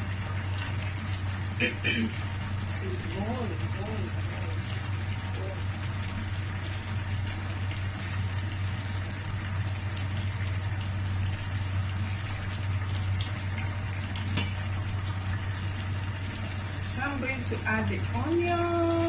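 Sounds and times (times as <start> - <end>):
low steady hum: 0.0 - 19.0
porridge pot bubbling: 0.0 - 19.0.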